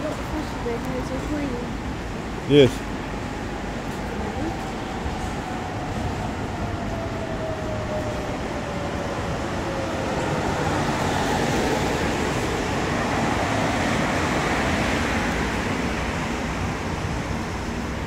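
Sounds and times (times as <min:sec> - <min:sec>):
street traffic road noise: 0:00.0 - 0:18.0.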